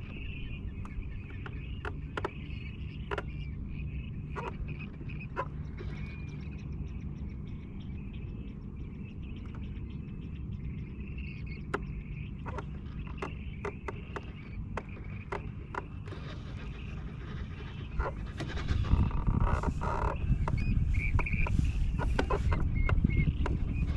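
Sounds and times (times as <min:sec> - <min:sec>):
faint high-pitched chirping: 0:00.0 - 0:23.9
steady low rumble: 0:00.0 - 0:23.9.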